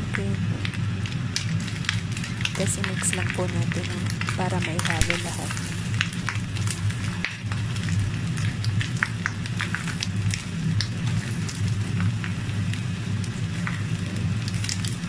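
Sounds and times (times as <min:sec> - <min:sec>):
food sizzling in oil: 0:00.0 - 0:15.0
low hum: 0:00.0 - 0:15.0.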